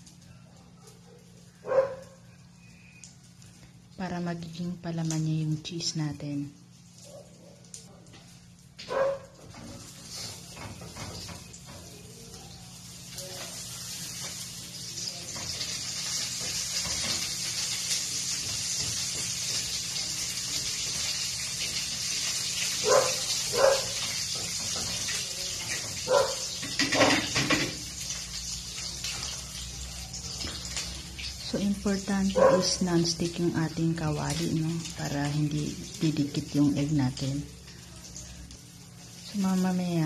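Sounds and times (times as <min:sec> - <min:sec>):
omelet sizzling in a pan: 0:00.0 - 0:40.0.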